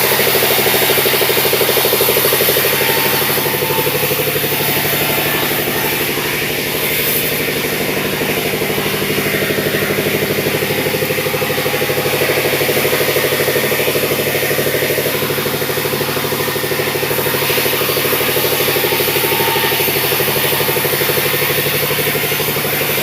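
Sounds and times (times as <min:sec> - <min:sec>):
sawmill engine droning: 0:00.0 - 0:23.0.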